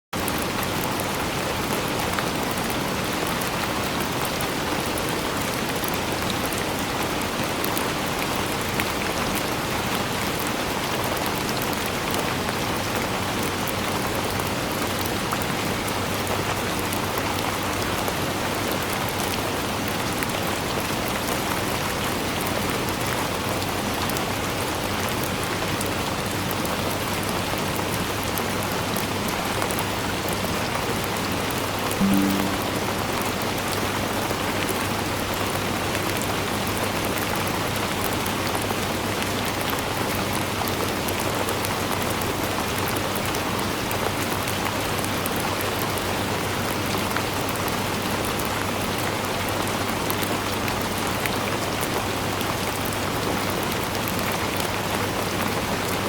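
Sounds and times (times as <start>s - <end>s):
steady rainfall: 0.2s - 32.6s, 35.4s - 56.0s.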